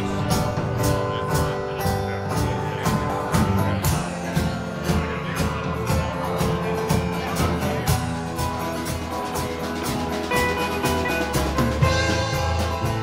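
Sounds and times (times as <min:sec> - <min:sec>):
live band with guitars and drums: 0:00.0 - 0:13.0.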